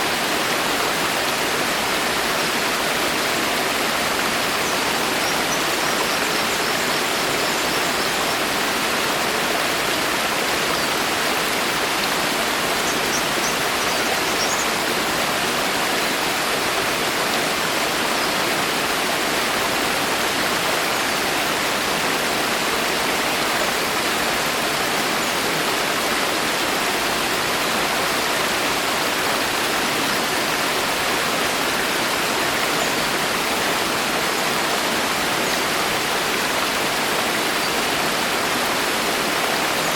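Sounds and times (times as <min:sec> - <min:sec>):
rain falling through forest canopy: 0:00.0 - 0:39.9.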